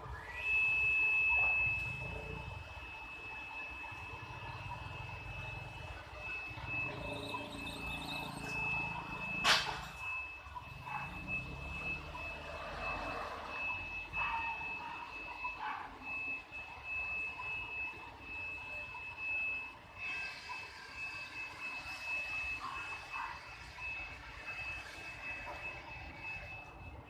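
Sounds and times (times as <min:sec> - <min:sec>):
reversing alarm beeping: 0:00.0 - 0:27.0.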